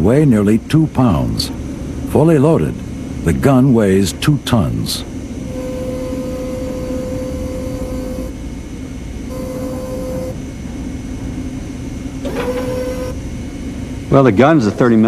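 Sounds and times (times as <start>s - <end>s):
machinery humming: 0.0s - 15.0s
steady machine whine: 0.0s - 15.0s.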